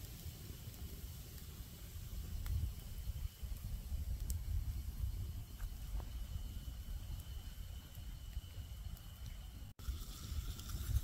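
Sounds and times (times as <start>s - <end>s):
campfire flames crackling: 0.0s - 11.0s.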